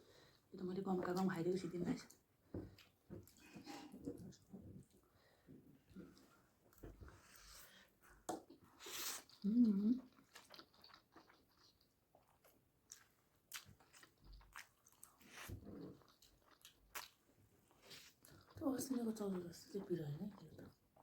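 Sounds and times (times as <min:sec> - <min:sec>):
chewing and smacking food: 0:00.3 - 0:07.3, 0:08.1 - 0:21.0.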